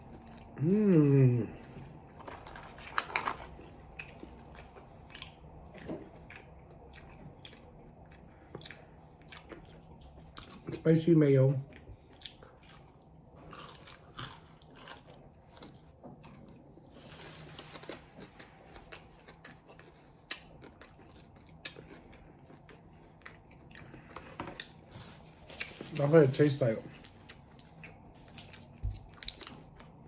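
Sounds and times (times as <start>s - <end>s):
person chewing crunchy food: 0.0s - 10.8s, 11.6s - 26.1s, 26.9s - 30.0s.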